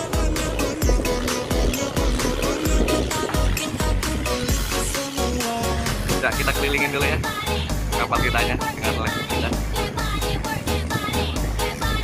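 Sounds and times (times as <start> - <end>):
electronic music with bass line: 0.0 - 12.0.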